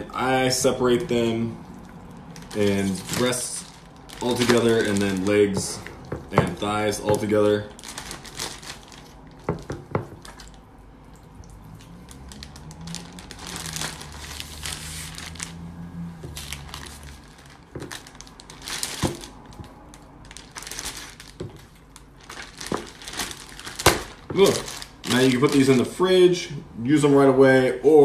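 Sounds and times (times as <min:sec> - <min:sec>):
plastic bag crinkling: 0:00.0 - 0:10.8, 0:11.6 - 0:26.2.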